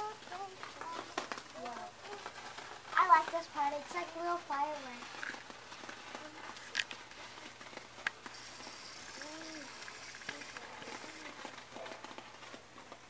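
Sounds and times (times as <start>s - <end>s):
sparkler fizzing and crackling: 0.0s - 13.0s.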